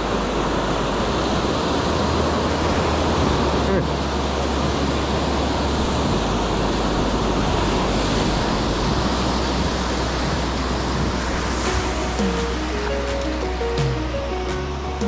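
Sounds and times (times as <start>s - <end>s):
wind rumble on microphone: 0.0s - 14.2s
waves breaking on beach: 0.0s - 15.0s.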